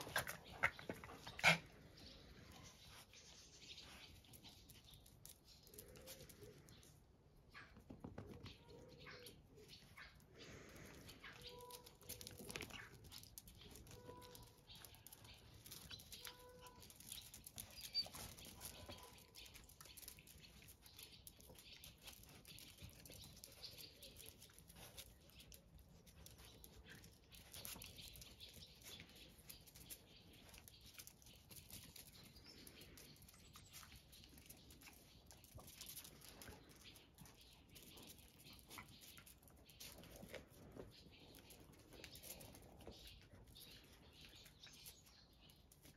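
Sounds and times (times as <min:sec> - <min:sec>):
puppies' paws pattering on concrete: 0:00.0 - 0:45.9.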